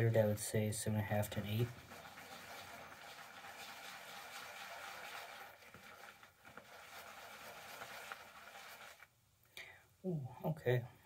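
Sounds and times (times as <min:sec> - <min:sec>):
shaving brush scrubbing lather: 0:00.1 - 0:09.1.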